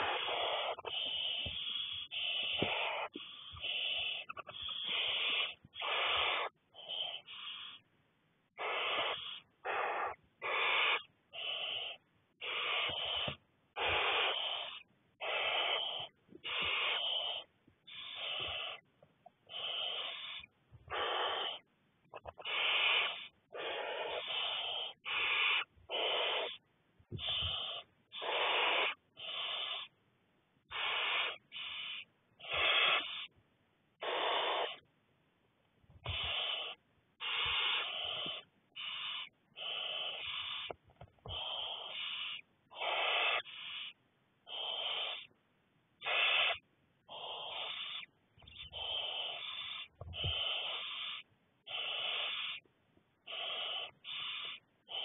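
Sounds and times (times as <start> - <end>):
owl chicks hissing: 0.0 - 7.9, 8.5 - 30.0, 30.6 - 34.9, 35.9 - 55.0.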